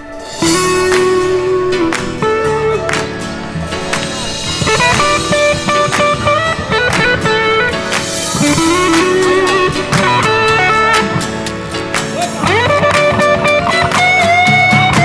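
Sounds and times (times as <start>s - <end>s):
instrumental guitar music with beat: 0.0s - 15.0s.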